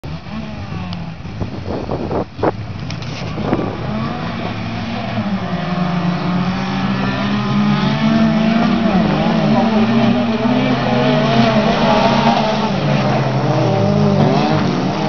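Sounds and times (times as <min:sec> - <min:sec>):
car engines idling and revving: 0:00.0 - 0:15.0
cars accelerating away: 0:00.0 - 0:15.0.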